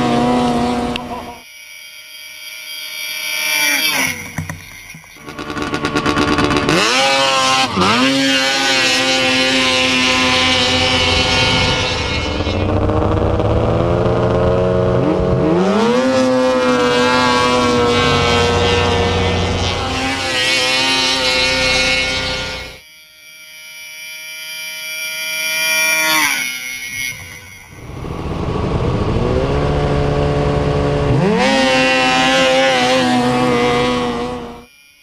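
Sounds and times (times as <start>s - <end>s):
snowmobile engines revving: 0.0s - 1.4s, 3.3s - 22.8s, 25.6s - 34.7s.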